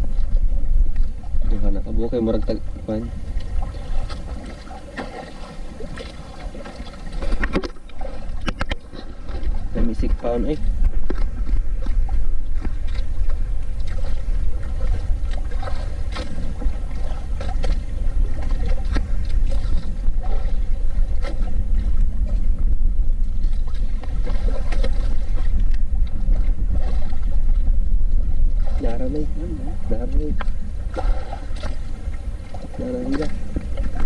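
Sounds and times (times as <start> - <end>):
water splashing against boat: 0.0 - 34.0.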